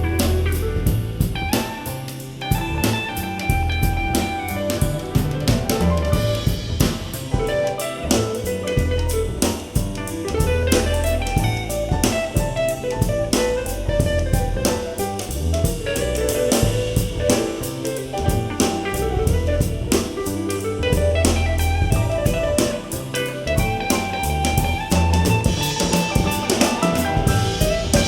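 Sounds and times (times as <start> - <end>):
instrumental soul-jazz music: 0.0 - 28.0.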